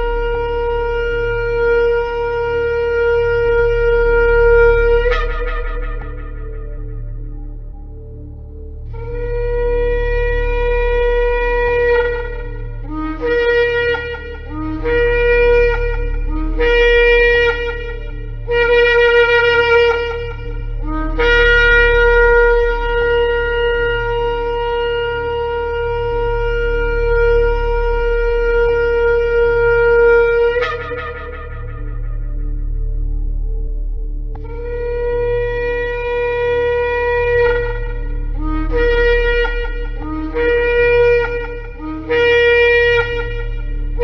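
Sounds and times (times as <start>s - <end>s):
low steady hum: 0.0s - 44.0s
ram's horn blowing: 0.0s - 44.0s.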